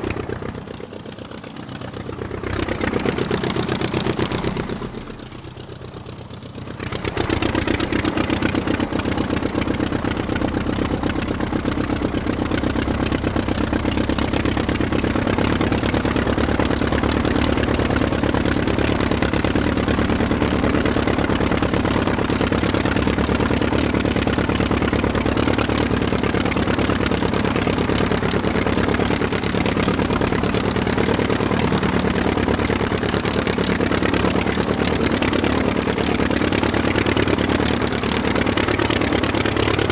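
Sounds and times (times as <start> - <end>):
aircraft engine pulsing: 1.6 - 39.9.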